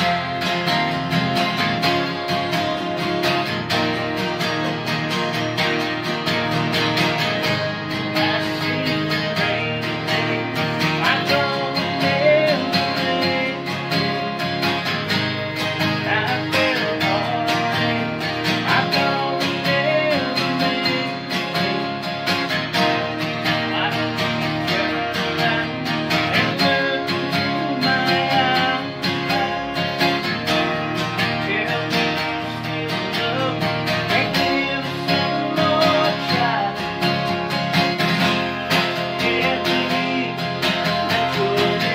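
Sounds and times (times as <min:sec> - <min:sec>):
acoustic guitars strumming: 0:00.0 - 0:41.9.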